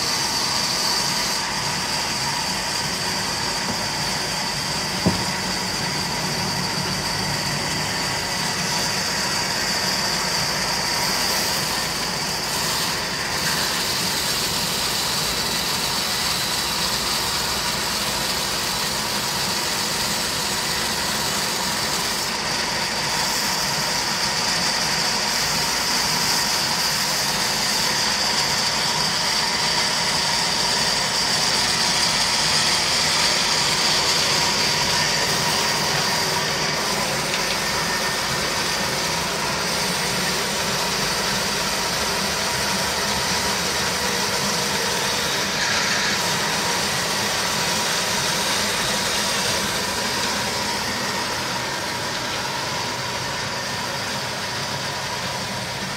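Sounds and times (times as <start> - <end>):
diesel engine running: 0.0 - 13.4, 21.2 - 55.9.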